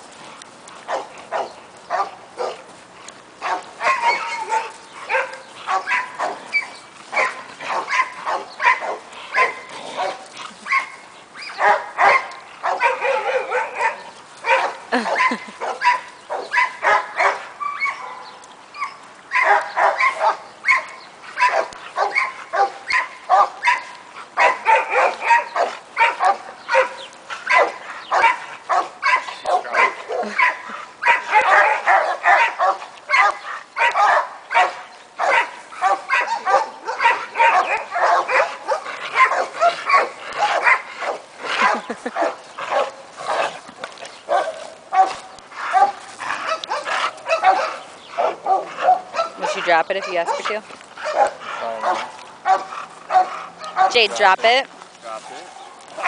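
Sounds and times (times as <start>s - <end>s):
dog barking: 0.9s - 2.6s, 3.4s - 18.2s, 19.3s - 43.6s, 44.3s - 54.4s.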